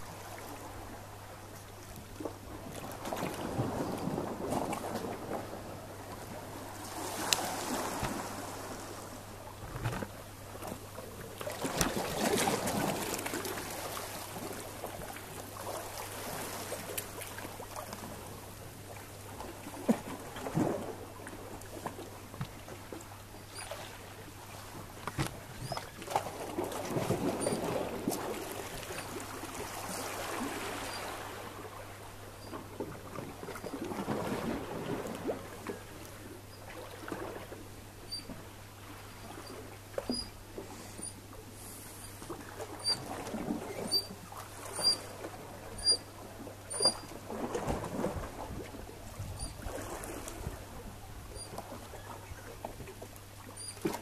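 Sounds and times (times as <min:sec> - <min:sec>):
water noise: 0:00.0 - 0:54.0.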